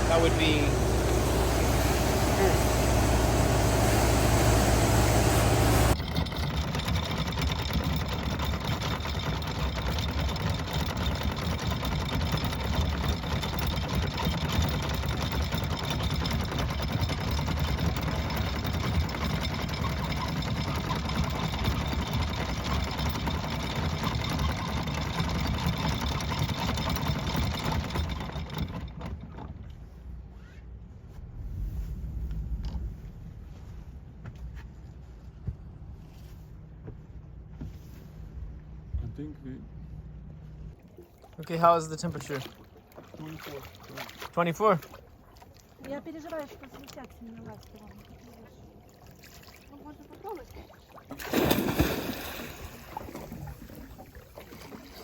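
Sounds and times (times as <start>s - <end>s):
boat engines running: 0.0s - 30.4s, 34.8s - 55.0s.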